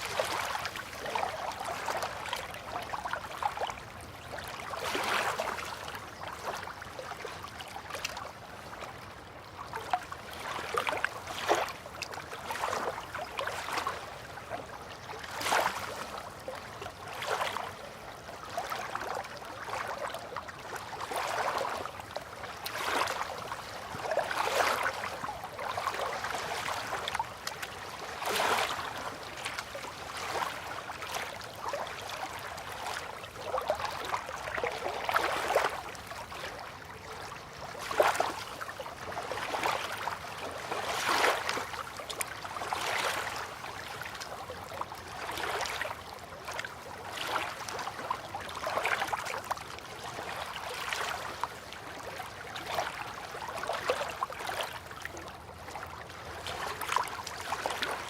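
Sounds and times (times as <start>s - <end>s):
water lapping: 0.0s - 58.0s.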